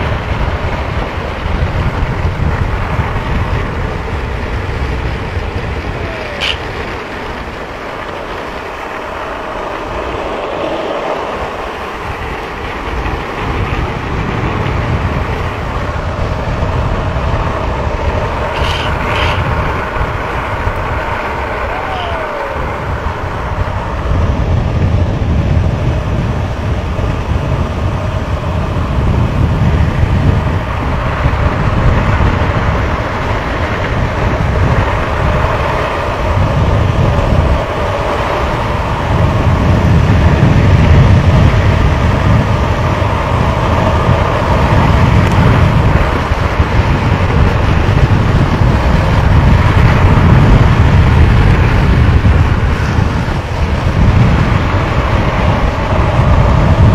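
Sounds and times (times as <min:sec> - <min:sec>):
longboard wheels rolling on asphalt: 0:00.0 - 0:56.9
wind rushing over microphone: 0:00.0 - 0:56.9.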